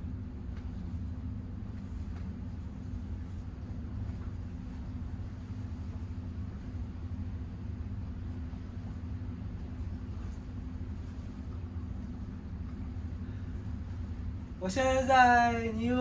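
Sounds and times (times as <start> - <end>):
ship engines droning: 0.0 - 16.0.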